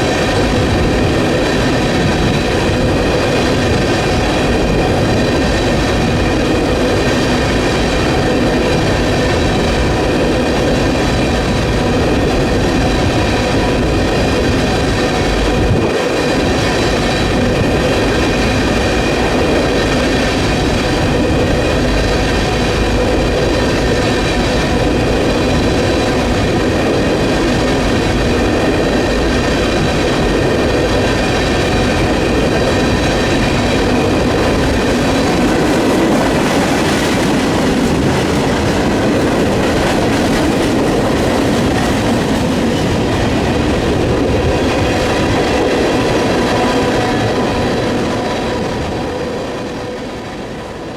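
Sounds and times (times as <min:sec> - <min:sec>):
train wheels rumbling on rails: 0:00.0 - 0:50.9
wind buffeting microphone: 0:00.0 - 0:50.9.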